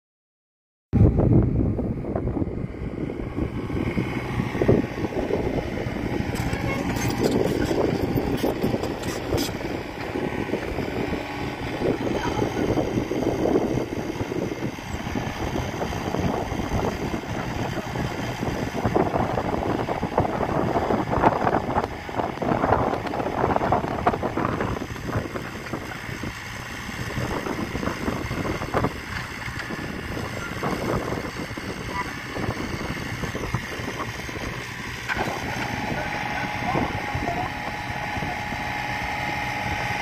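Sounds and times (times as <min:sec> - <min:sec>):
mini excavator running: 0:01.4 - 0:40.0.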